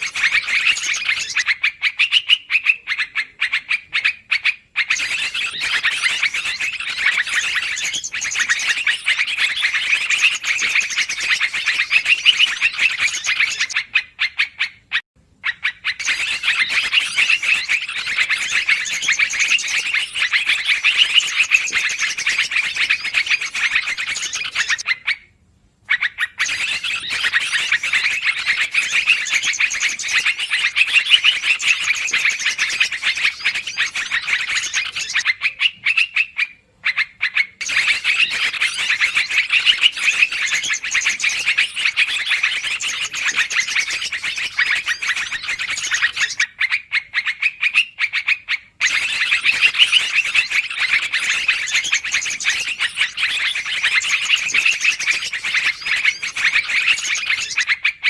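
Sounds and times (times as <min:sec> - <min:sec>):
bulbuls chattering rapidly: 0:00.0 - 0:14.1, 0:15.6 - 0:24.9, 0:26.4 - 0:37.0, 0:37.6 - 0:46.4, 0:48.8 - 0:57.8.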